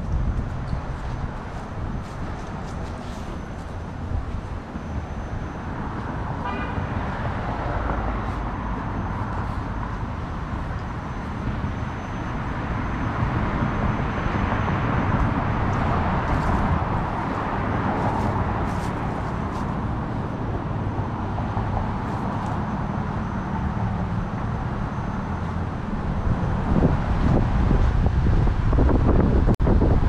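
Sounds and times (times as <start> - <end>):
road traffic going by: 0.0 - 30.0.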